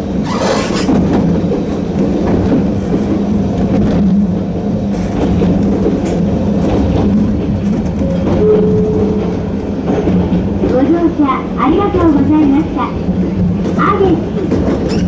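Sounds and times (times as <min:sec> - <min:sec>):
electric train running on rails: 0:00.0 - 0:15.0.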